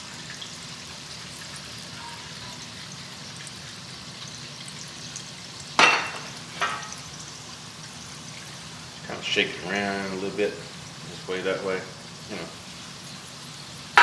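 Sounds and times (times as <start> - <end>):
tortilla sizzling in oil: 0.0 - 14.0.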